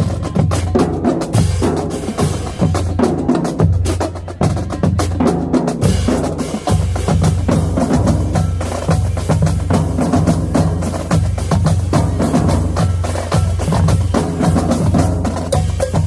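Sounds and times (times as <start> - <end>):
pounding bass drums: 0.0 - 16.0.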